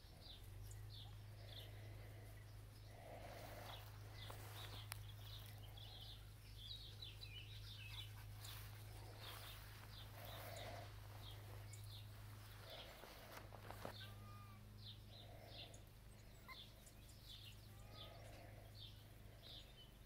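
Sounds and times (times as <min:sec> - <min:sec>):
steady low hum: 0:00.0 - 0:20.0
bird chirps: 0:02.4 - 0:20.0.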